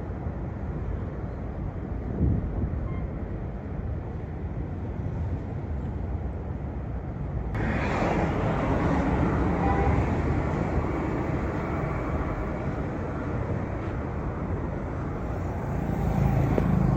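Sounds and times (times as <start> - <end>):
low outdoor rumble: 0.0 - 16.9.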